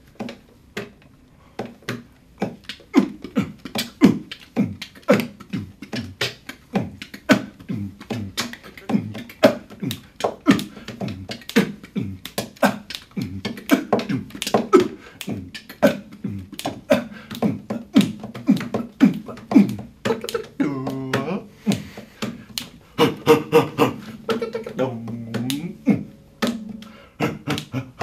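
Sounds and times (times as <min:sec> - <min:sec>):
vocal beatboxing: 0:01.6 - 0:28.0.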